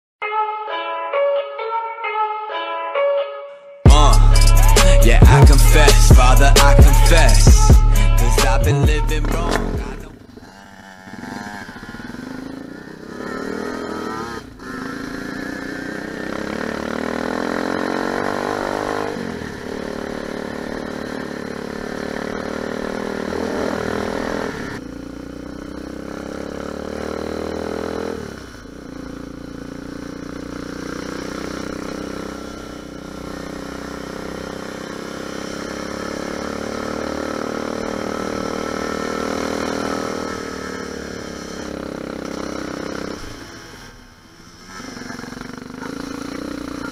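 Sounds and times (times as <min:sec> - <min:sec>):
motorbike engine revving: 0:03.9 - 0:46.9.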